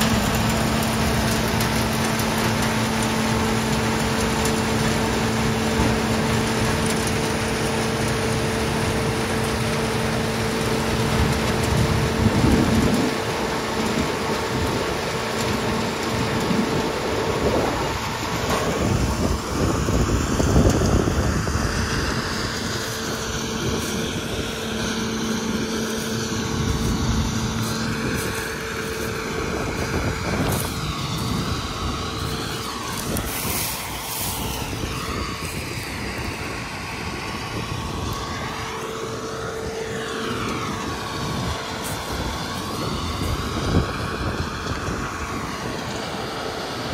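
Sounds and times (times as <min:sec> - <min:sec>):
peanut harvester machine noise: 0:00.0 - 0:46.9.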